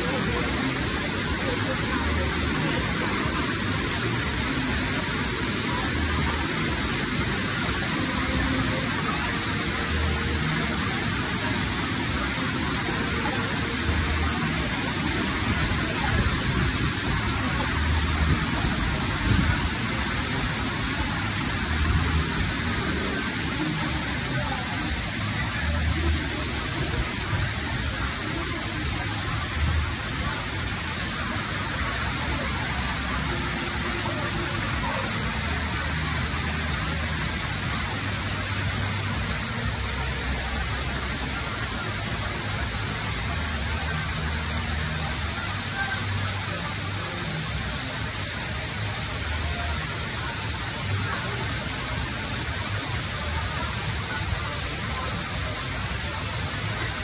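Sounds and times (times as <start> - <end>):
heavy rain pouring: 0.0 - 57.0
water streaming off an awning: 0.0 - 57.0.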